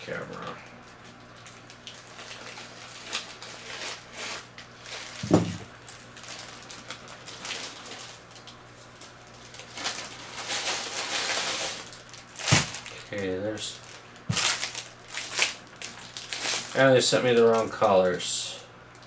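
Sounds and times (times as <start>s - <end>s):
plastic mailer rustling: 1.4s - 18.3s.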